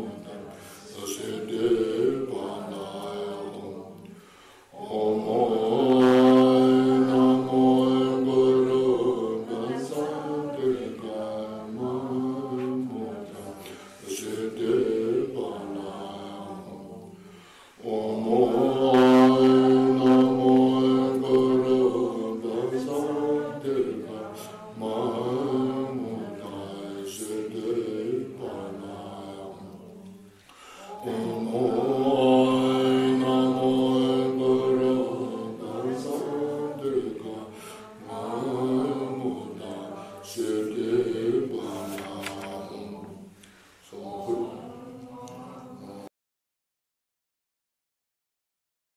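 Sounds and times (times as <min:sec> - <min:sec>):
voices chanting a prayer: 0:00.0 - 0:46.1.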